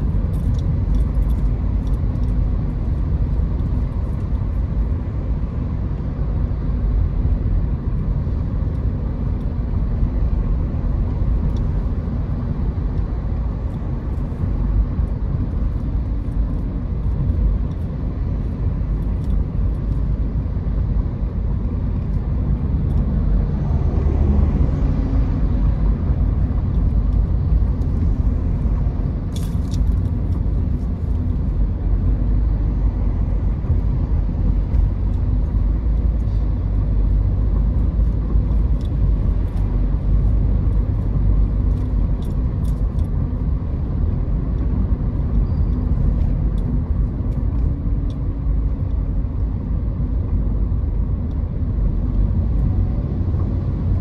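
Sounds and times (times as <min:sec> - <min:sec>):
car rumbling on road: 0:00.0 - 0:54.0.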